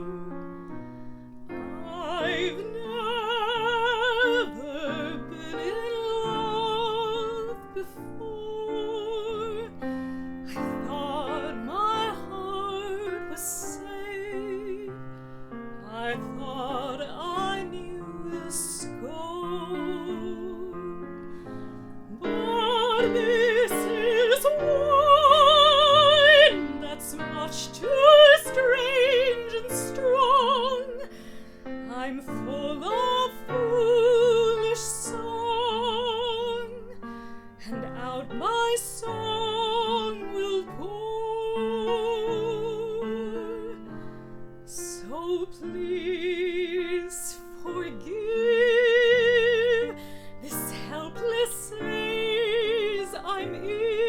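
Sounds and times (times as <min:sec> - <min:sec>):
piano: 0:00.0 - 0:54.0
woman singing operatically: 0:01.5 - 0:15.1, 0:15.7 - 0:21.3, 0:22.1 - 0:31.2, 0:31.8 - 0:37.0, 0:37.6 - 0:44.0, 0:44.7 - 0:54.0.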